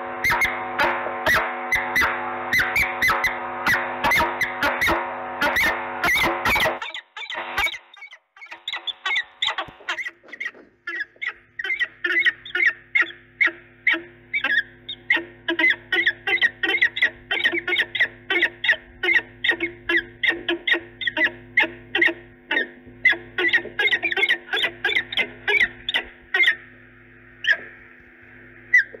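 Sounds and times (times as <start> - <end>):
falcons calling: 0.2 - 26.7, 27.3 - 29.0.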